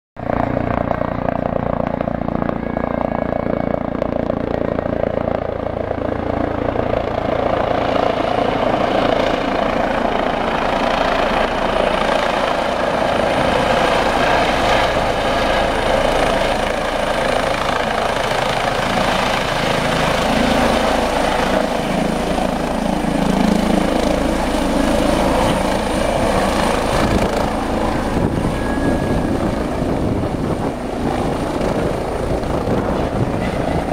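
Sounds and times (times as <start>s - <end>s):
helicopter rotor and turbine: 0.2s - 33.9s.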